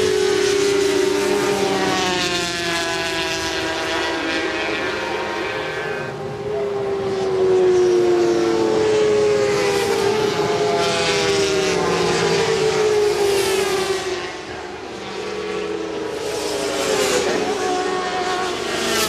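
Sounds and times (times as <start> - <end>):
racing motorcycles passing: 0.0 - 19.0.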